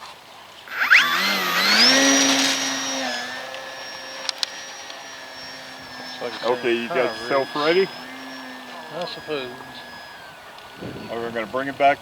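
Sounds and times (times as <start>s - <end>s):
model plane propeller whine: 0.4s - 12.0s.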